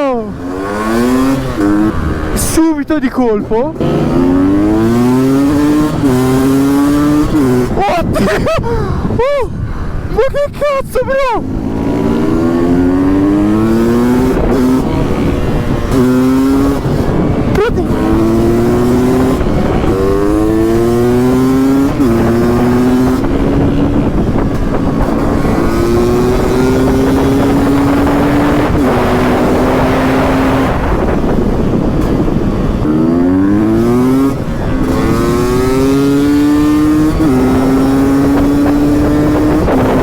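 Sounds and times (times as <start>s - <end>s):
motorcycle engine revving through gears: 0.0s - 8.3s, 11.4s - 40.0s.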